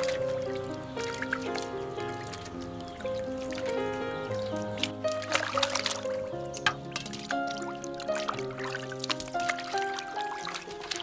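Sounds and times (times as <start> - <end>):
background music with held notes: 0.0 - 11.0
water splashing in a metal basin: 0.0 - 11.0.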